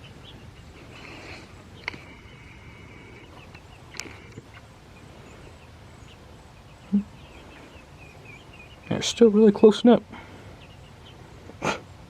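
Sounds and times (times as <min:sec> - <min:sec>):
young chickens calling: 0:00.0 - 0:12.0.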